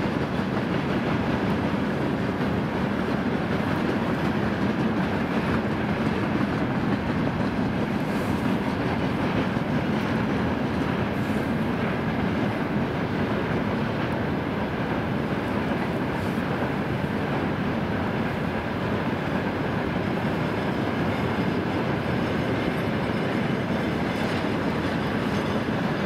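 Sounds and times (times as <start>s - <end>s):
freight train wagons on rails: 0.0s - 26.0s.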